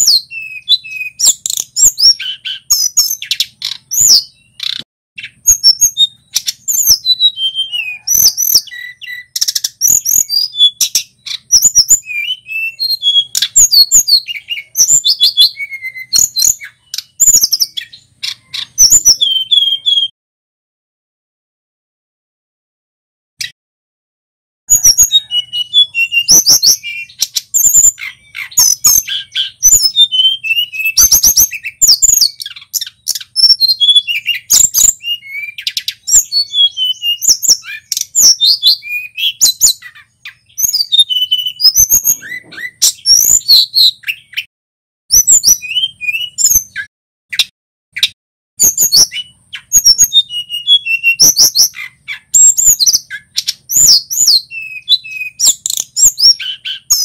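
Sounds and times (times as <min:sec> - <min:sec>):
bird singing whistled notes: 0:00.0 - 0:20.1, 0:24.7 - 0:44.5, 0:45.1 - 0:57.0.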